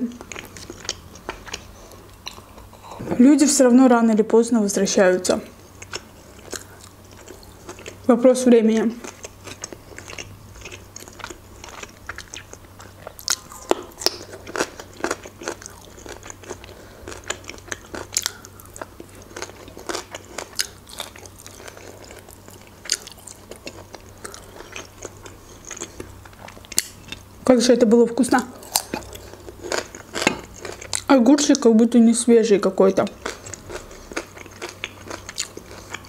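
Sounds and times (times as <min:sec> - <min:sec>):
crunching and chewing cucumber: 0:00.1 - 0:02.7, 0:05.8 - 0:08.1, 0:08.8 - 0:27.3, 0:28.3 - 0:31.6, 0:33.0 - 0:36.0.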